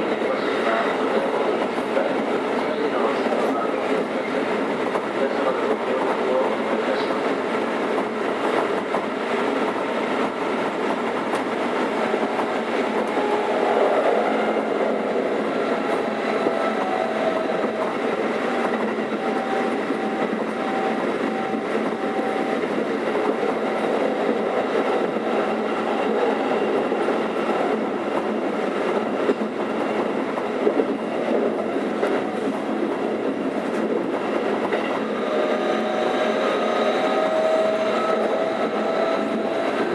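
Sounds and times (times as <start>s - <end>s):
electric train rolling and motor: 0.0s - 39.9s.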